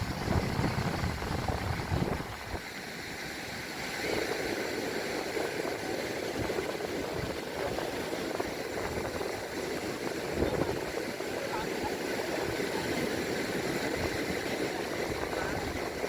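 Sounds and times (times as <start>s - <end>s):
seaside wind: 0.0s - 16.0s
surf: 0.0s - 16.0s
wind buffeting microphone: 0.0s - 16.0s.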